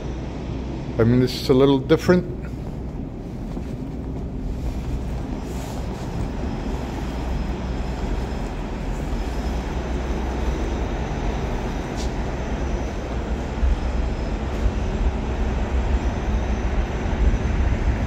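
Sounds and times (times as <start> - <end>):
faint high whine: 0.0 - 18.0
subway train rumble: 0.0 - 18.0.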